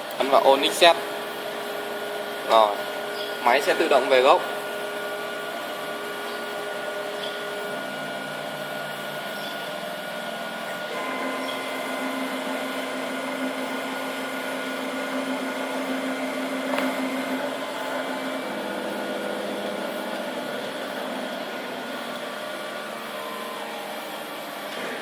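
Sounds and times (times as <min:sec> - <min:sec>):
stepper motors humming: 0:00.0 - 0:25.0
steady whirring: 0:00.4 - 0:25.0.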